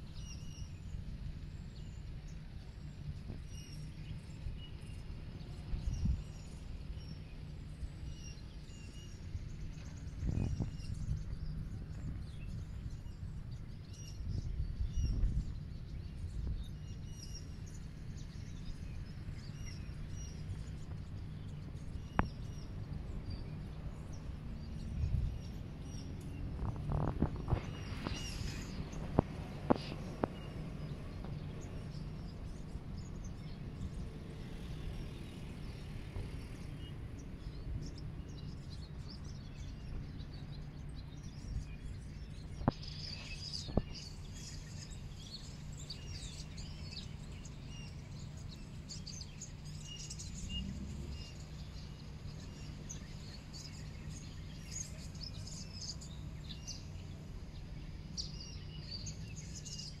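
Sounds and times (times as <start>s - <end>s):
low background rumble: 0.0s - 60.0s
small birds chirping: 0.0s - 60.0s.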